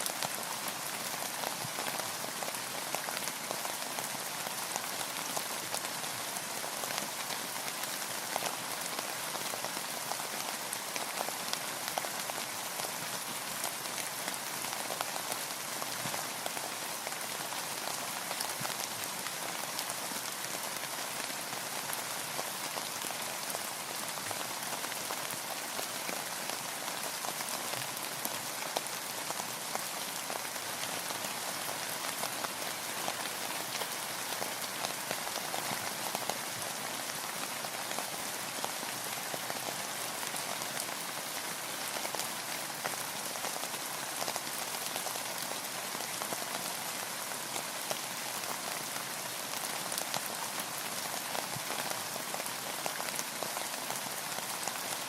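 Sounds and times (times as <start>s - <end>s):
rain pattering on a boat: 0.0s - 55.0s.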